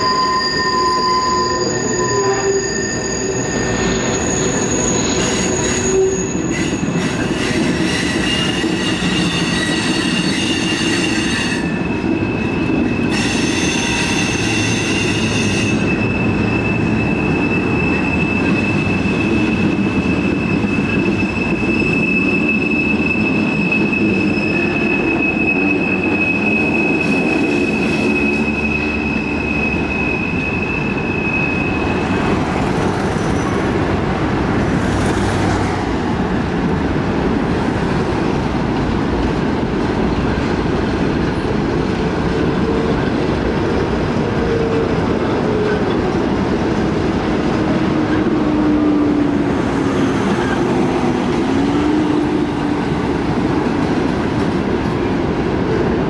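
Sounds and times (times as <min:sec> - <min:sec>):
train wheel squeal: 0:00.0 - 0:34.0, 0:34.7 - 0:36.4, 0:39.2 - 0:56.0
freight train cars rolling: 0:00.0 - 0:56.0.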